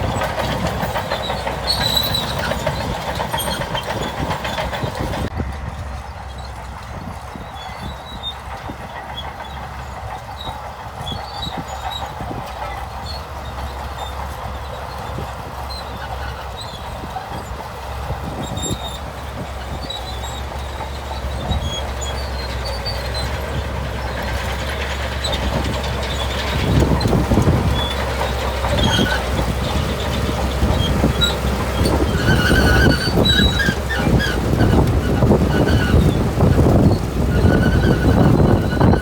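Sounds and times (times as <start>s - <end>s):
bulldozer diesel engine running: 0.0s - 39.0s
steel tracks clattering: 0.0s - 39.0s.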